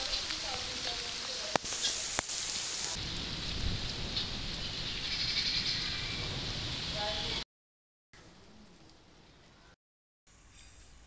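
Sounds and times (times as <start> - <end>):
rain pattering on ground: 0.0 - 7.4, 8.2 - 9.7.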